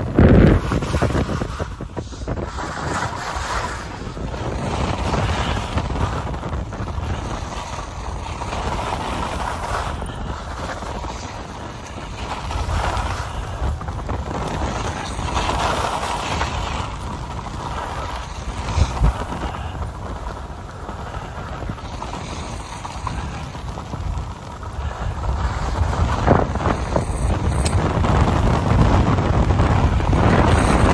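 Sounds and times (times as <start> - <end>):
skis sliding over snow: 0.0 - 30.9
wind rushing over microphone: 0.0 - 30.9.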